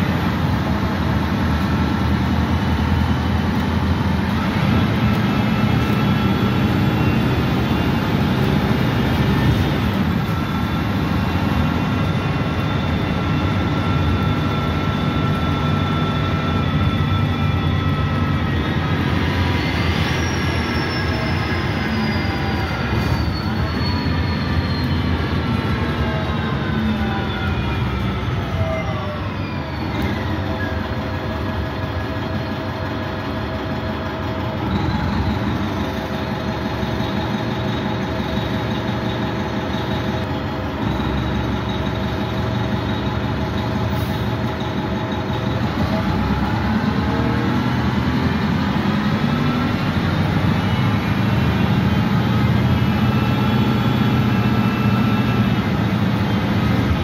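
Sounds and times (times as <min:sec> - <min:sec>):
bus drivetrain whine: 0:00.0 - 0:57.0.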